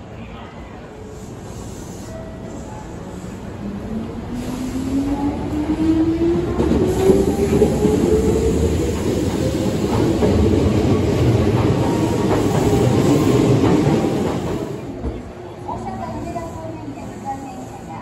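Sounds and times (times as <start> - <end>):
train rumble: 0.8 - 18.0.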